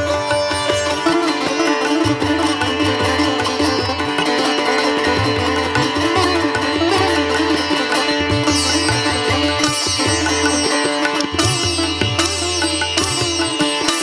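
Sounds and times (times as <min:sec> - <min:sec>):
plucked sitar-like strings: 0:00.0 - 0:14.0.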